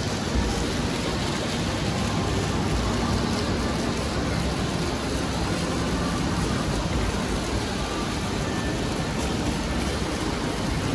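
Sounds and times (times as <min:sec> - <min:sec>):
fountain jet splashing into pool: 0:00.0 - 0:10.9.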